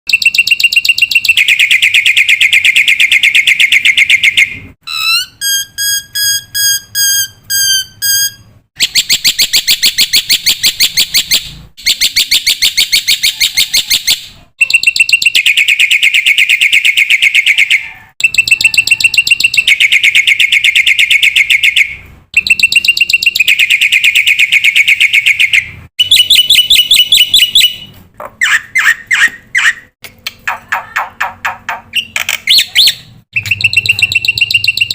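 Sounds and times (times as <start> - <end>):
bird fast repeated chirps: 0.1 - 34.9.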